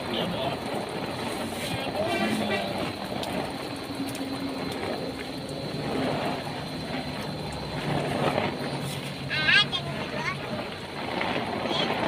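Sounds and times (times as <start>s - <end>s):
heavy rain on plastic tarp: 0.0s - 12.0s.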